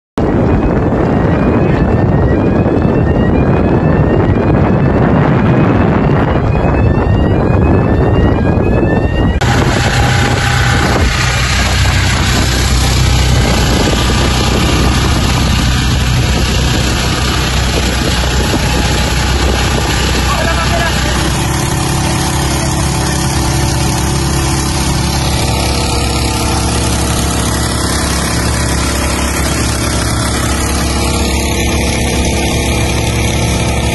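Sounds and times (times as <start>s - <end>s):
boat engine running: 0.2s - 33.9s
pump engine humming: 0.2s - 33.9s
wind on microphone: 0.2s - 33.9s.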